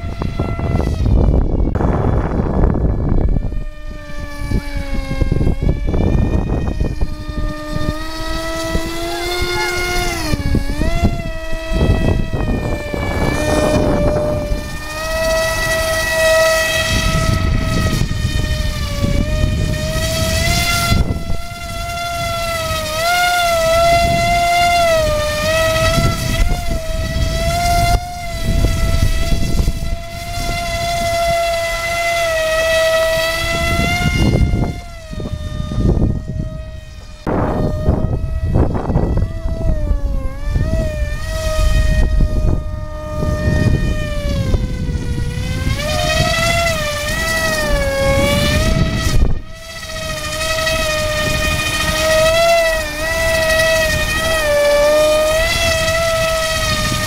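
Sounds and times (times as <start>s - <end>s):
electric motor propeller whine: 0.0s - 57.0s
wind buffeting microphone: 0.0s - 57.0s.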